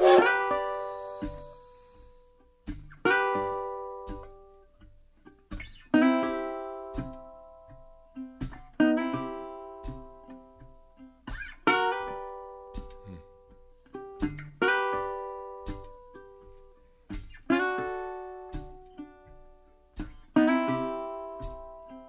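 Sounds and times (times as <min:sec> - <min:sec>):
plucked acoustic string instrument: 0:00.0 - 0:22.0.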